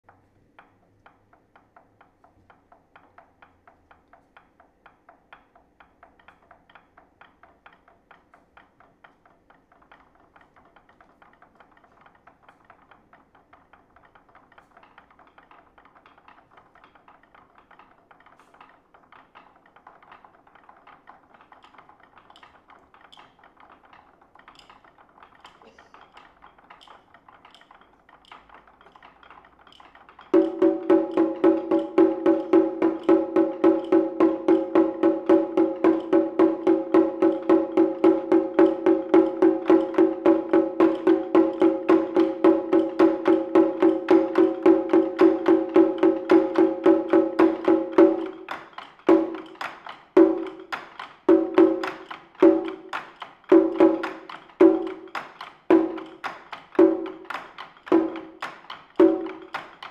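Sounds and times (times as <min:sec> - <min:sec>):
drumsticks ticking taps: 0:00.0 - 0:59.9.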